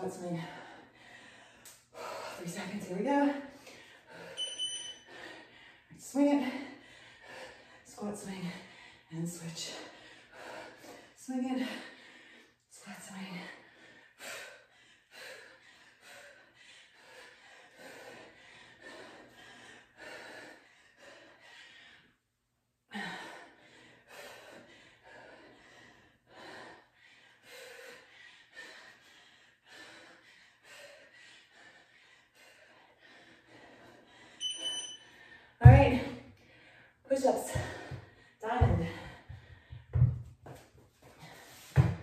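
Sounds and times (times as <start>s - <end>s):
woman breathing hard: 0.3s - 2.5s, 3.4s - 12.7s, 13.3s - 22.3s, 22.9s - 42.0s.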